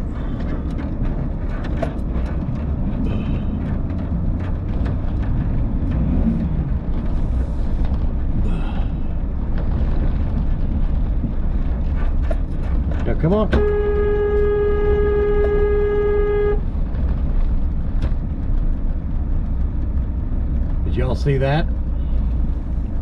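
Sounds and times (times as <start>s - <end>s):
low engine and road rumble: 0.0s - 23.0s.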